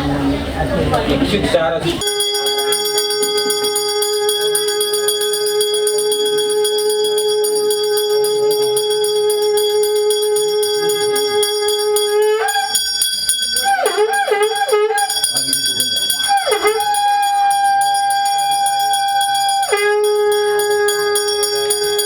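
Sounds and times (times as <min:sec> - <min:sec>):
hand bell rung rapidly: 0:02.0 - 0:22.0
long held note: 0:02.0 - 0:22.0.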